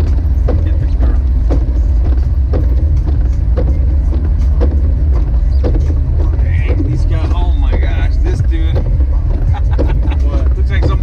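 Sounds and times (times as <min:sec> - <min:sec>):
car engine and road noise: 0:00.0 - 0:11.0
regular knocking: 0:00.0 - 0:11.0.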